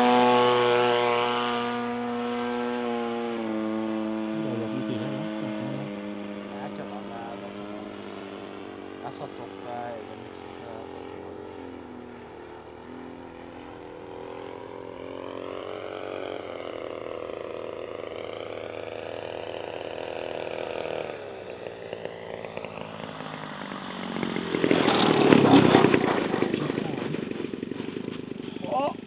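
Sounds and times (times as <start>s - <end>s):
model airplane engine: 0.0s - 29.0s.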